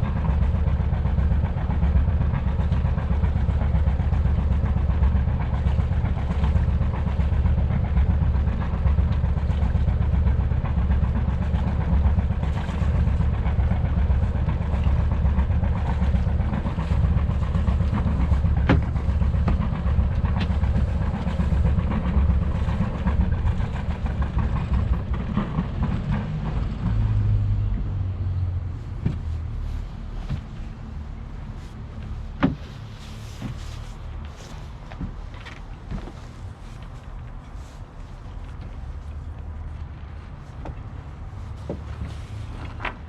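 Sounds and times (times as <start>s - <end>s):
diesel engine rumbling: 0.0s - 43.0s.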